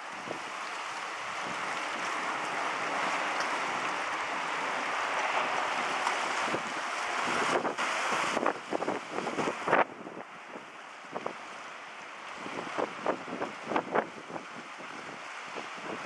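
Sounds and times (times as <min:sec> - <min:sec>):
boat engine rushing: 0:00.0 - 0:16.0
churned water: 0:00.0 - 0:16.0.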